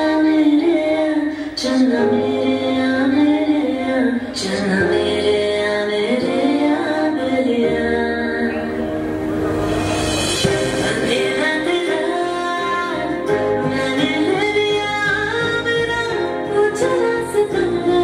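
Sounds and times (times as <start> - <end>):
woman singing romantic song: 0.0 - 9.1, 10.4 - 18.0.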